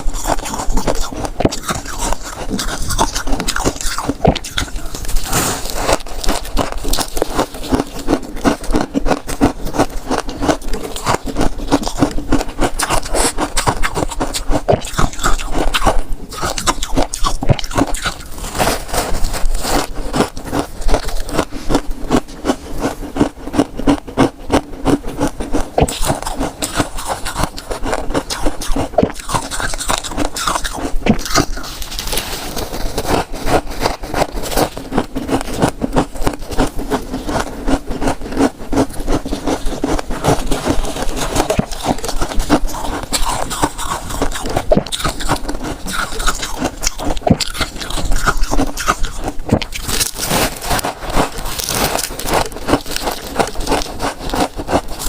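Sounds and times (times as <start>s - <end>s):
frost crunching and scraping: 0.0s - 55.0s.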